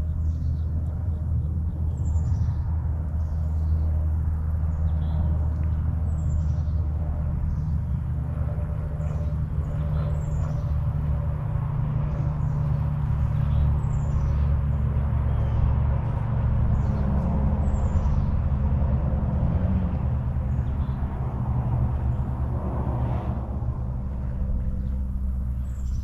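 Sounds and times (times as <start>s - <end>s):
birds chirping: 0.0s - 11.4s, 12.0s - 18.5s, 20.2s - 22.4s, 24.1s - 26.0s
steady low rumble: 0.0s - 26.0s.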